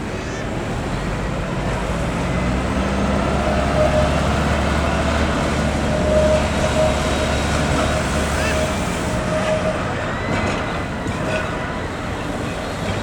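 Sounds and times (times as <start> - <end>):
tram rumbling: 0.0 - 13.0.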